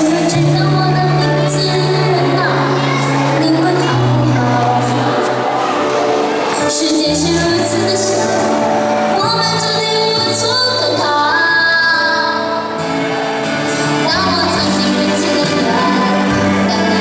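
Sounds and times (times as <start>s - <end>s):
person singing pop song: 0.0s - 17.0s.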